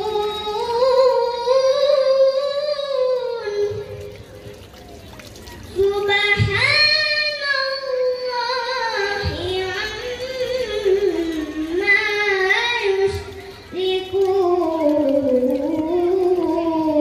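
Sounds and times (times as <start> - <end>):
boy reciting melodically: 0.0 - 4.4, 5.4 - 17.0.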